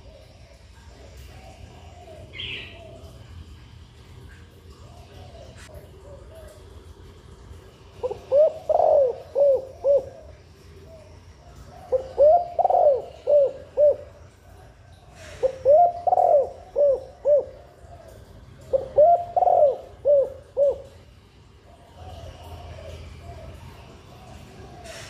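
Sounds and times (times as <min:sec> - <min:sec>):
dove cooing: 0:00.0 - 0:03.6, 0:04.7 - 0:07.0, 0:07.9 - 0:25.0.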